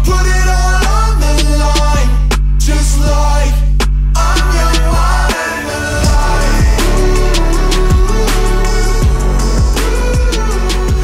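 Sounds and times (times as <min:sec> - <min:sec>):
background music with beat: 0:00.0 - 0:11.0
deep bass: 0:00.0 - 0:11.0.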